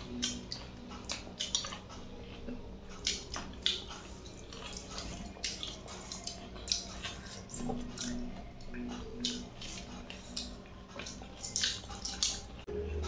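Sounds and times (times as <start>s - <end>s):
fingers mixing food: 0.0s - 13.0s.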